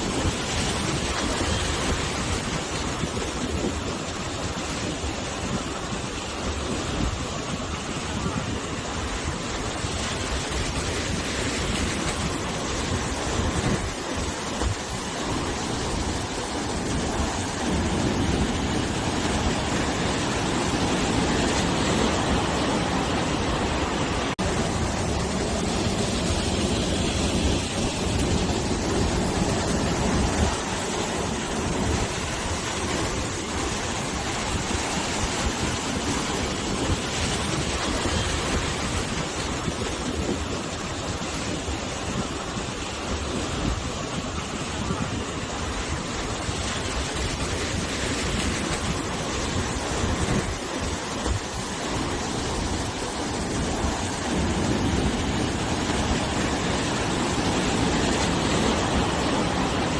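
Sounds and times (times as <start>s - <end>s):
sea waves washing ashore: 0.0s - 59.9s
wind blowing: 0.0s - 59.9s.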